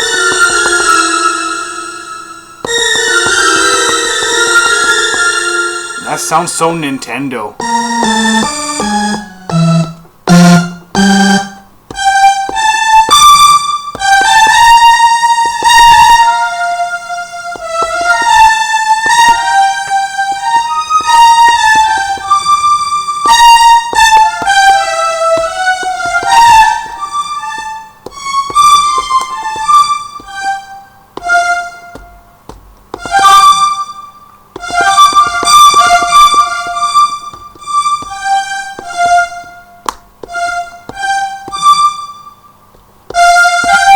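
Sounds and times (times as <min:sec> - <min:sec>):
violin-like synth melody: 0:00.0 - 0:07.0, 0:07.6 - 0:32.2, 0:32.9 - 0:42.4, 0:43.1 - 0:43.9
controller pad taps: 0:02.6 - 0:05.4, 0:07.6 - 0:16.5, 0:17.4 - 0:42.0, 0:42.6 - 0:43.9.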